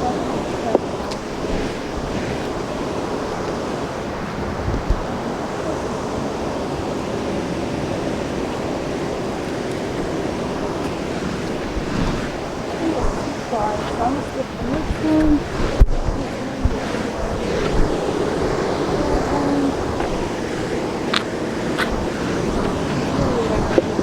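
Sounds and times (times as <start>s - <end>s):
flowing creek water: 0.0s - 24.0s
wind buffeting microphone: 0.0s - 24.0s.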